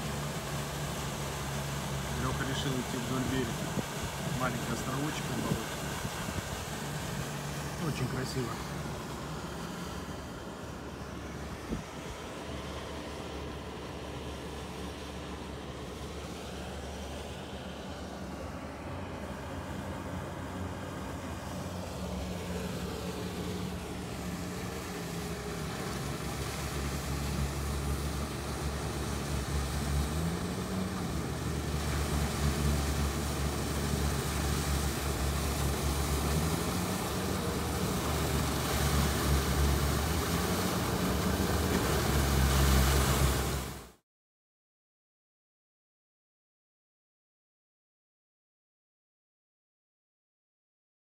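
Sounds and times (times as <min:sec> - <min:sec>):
water splashing: 0:00.0 - 0:18.4, 0:19.3 - 0:44.0
vehicle engine running under load: 0:00.0 - 0:44.0.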